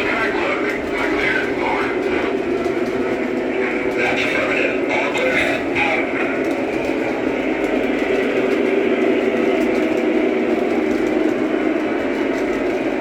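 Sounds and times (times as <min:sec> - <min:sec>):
train running: 0:00.0 - 0:13.0.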